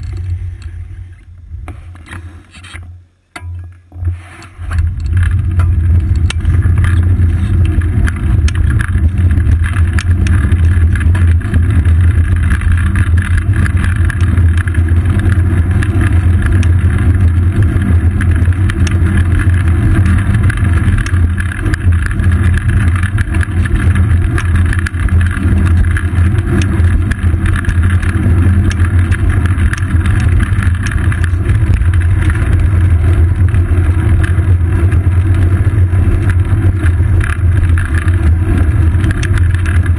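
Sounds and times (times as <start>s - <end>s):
wind rumble: 0.0s - 2.5s, 3.9s - 39.9s
road vibration: 0.0s - 39.9s.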